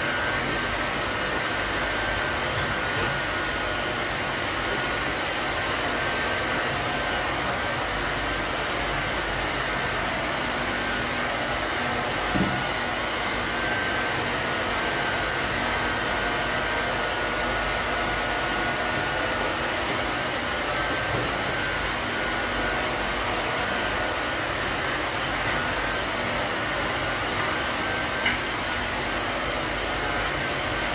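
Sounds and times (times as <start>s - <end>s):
fan whooshing with whine: 0.0s - 30.9s.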